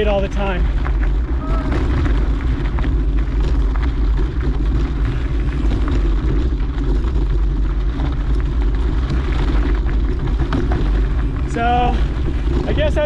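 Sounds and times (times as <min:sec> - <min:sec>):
mountain bike rolling on trail: 0:00.0 - 0:13.0
wind rumble on microphone: 0:00.0 - 0:13.0.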